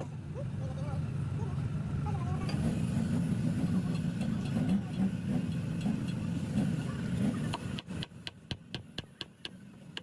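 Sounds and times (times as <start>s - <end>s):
engine idling unevenly: 0.0s - 10.0s.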